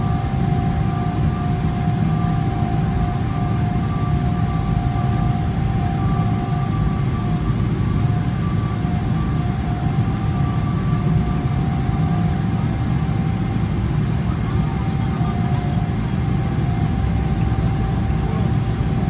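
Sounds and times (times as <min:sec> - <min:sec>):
jet engines low rumble: 0:00.0 - 0:19.0.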